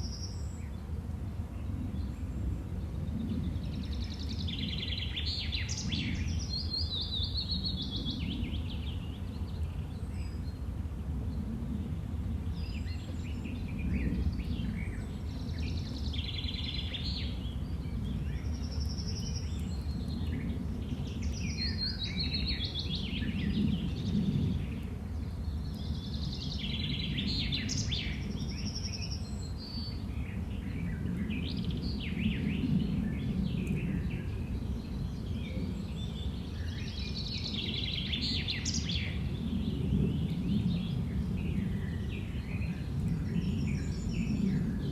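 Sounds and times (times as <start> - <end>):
songbirds chirping and singing: 1.7 - 10.7, 11.4 - 44.9.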